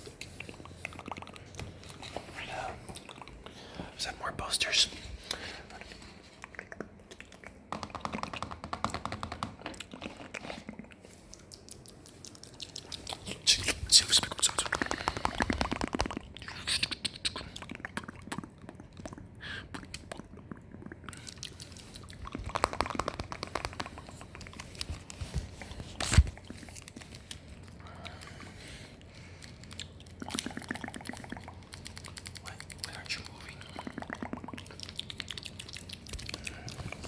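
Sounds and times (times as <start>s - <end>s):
wet mouth clicks and smacks: 4.6s - 37.0s.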